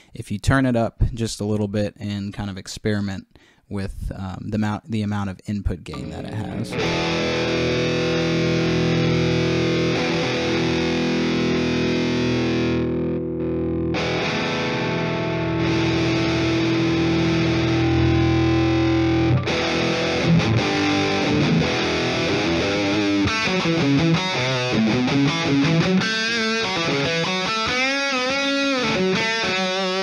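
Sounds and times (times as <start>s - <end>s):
distorted electric guitar: 6.0s - 30.0s.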